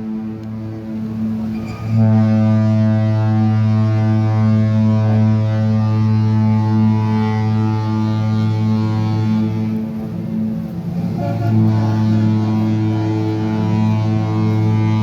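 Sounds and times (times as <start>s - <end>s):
ship horn deep blast: 0.0s - 15.0s.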